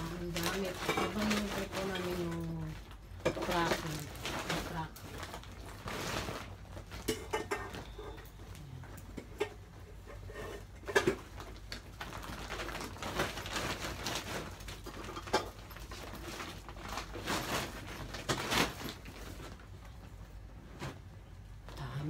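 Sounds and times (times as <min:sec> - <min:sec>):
clothes and plastic bags rustling: 0:00.0 - 0:22.0.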